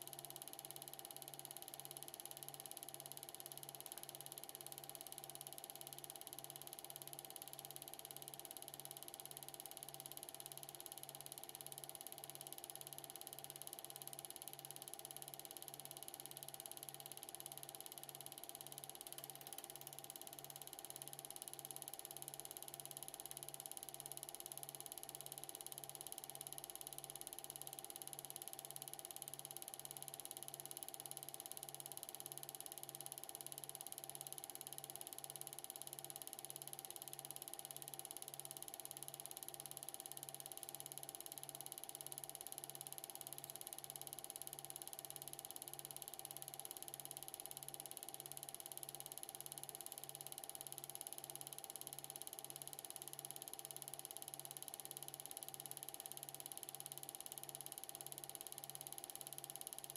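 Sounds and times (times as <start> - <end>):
film projector whirring: 0.2 - 59.9.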